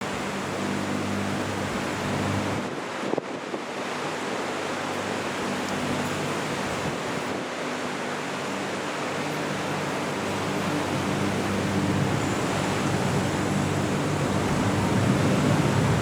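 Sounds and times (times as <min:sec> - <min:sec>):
low boat engine hum: 0:00.0 - 0:16.0
water noise: 0:00.0 - 0:16.0
wind: 0:00.0 - 0:16.0.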